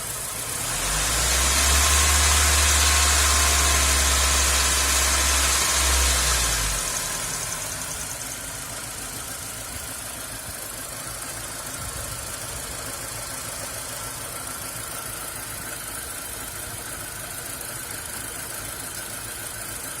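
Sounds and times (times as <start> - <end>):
car engine idling roughly: 0.0 - 20.0.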